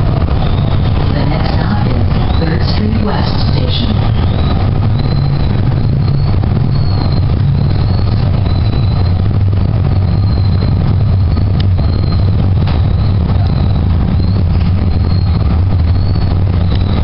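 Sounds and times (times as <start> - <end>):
faint high whine: 0.0 - 17.0
train car low rumble: 0.0 - 17.0.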